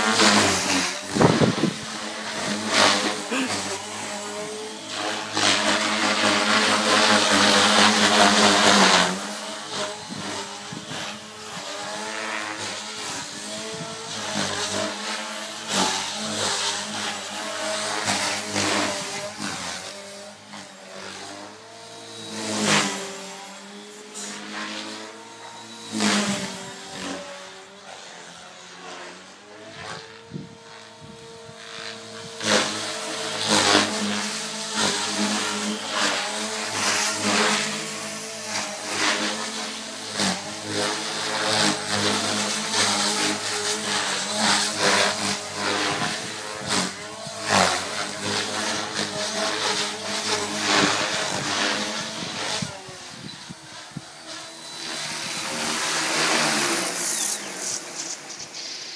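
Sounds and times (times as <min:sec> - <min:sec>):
rc helicopter rotor and motor whine: 0:00.0 - 0:58.9.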